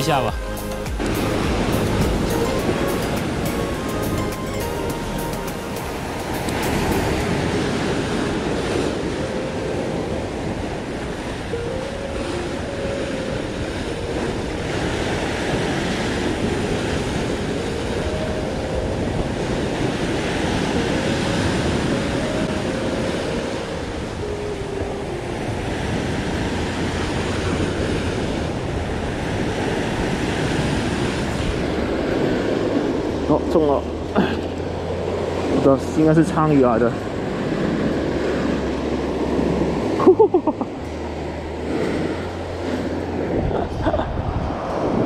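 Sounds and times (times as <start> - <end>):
wind buffeting microphone: 0.0 - 4.4, 5.6 - 45.0
surf breaking over rocks: 1.0 - 45.0.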